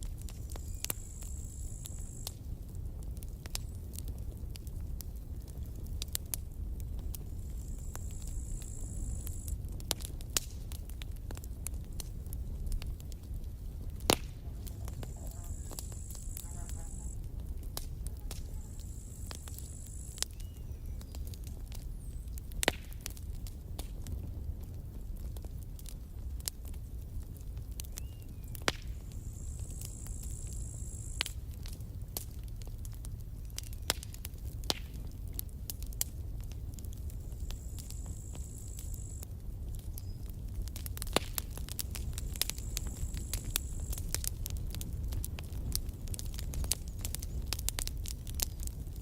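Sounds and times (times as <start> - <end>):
burning wood crackling and popping: 0.0 - 49.0
campfire rumble: 0.0 - 49.0.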